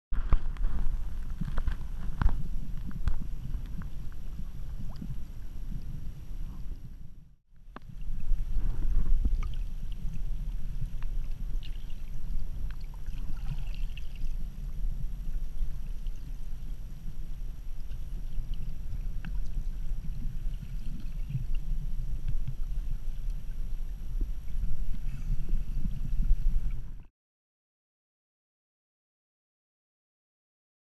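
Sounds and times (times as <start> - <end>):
muffled underwater rumble: 0.2 - 27.1.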